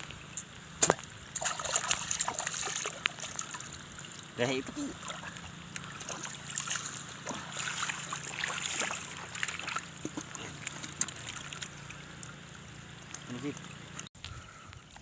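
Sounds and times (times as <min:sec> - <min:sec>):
water dripping: 0:00.0 - 0:04.4, 0:05.0 - 0:14.9
feet wading through water: 0:00.0 - 0:14.1.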